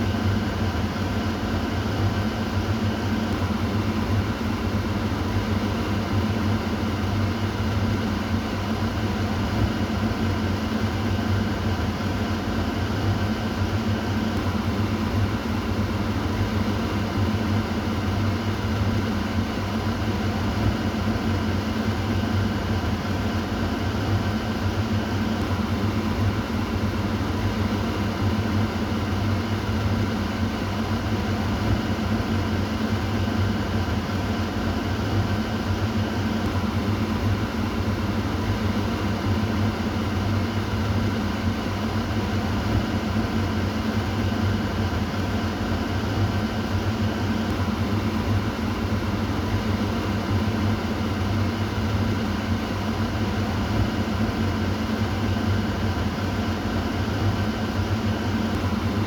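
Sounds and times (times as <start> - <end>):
kitchen exhaust fan humming: 0.0 - 59.0.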